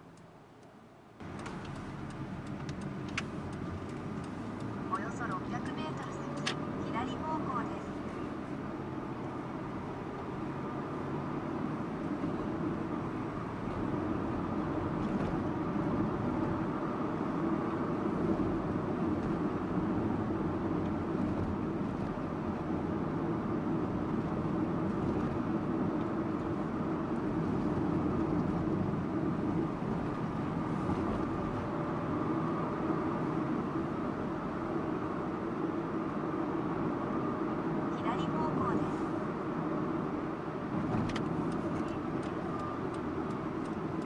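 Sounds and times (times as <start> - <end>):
car engine drone: 0.0 - 44.0
tyre and road noise: 0.0 - 44.0.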